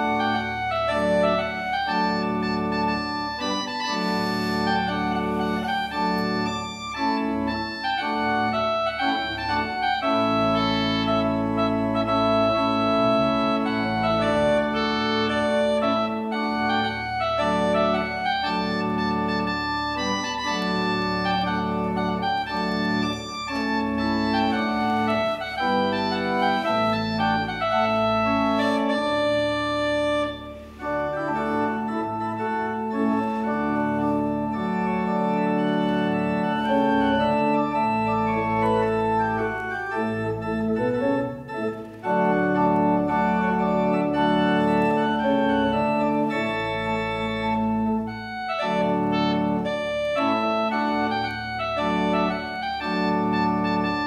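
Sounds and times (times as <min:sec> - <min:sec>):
organ playing sustained chords: 0:00.0 - 0:54.0.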